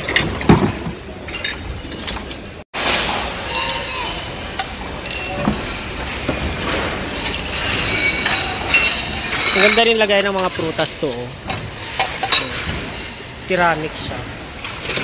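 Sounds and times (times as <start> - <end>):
dishes clinking and knocking: 0.0 - 15.0.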